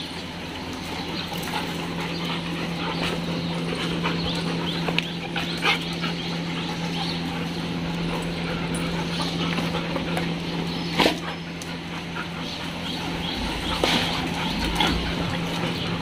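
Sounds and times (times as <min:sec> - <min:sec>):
dogs yipping and whining: 0:00.0 - 0:16.0
steady low hum: 0:00.0 - 0:16.0.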